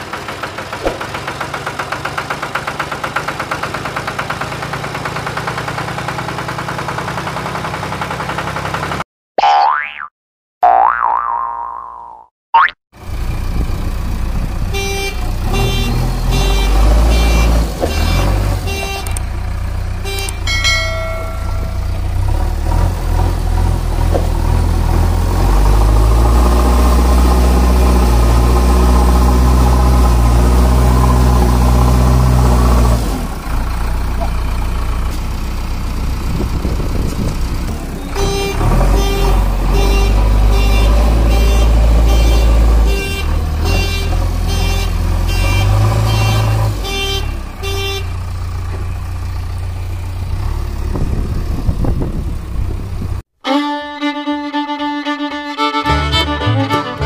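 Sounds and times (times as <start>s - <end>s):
vehicle engine running: 0.0s - 9.0s, 13.0s - 53.2s.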